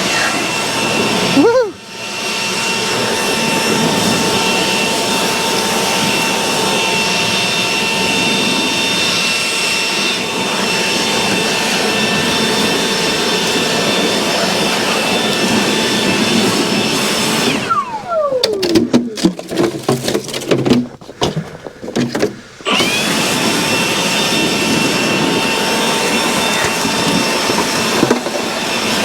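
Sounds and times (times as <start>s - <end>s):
leaf blower whining: 0.0s - 29.0s.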